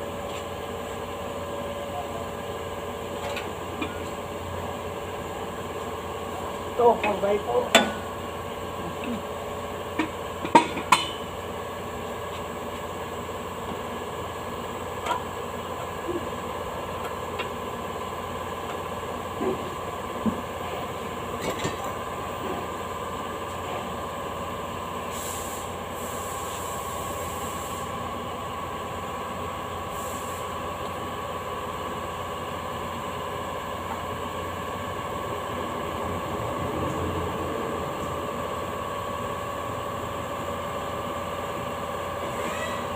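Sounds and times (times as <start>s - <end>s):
workshop hum: 0.0s - 42.9s.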